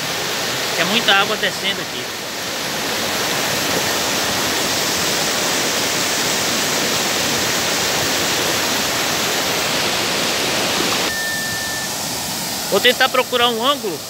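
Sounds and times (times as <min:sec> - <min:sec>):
water rushing over spillway: 0:00.0 - 0:14.0.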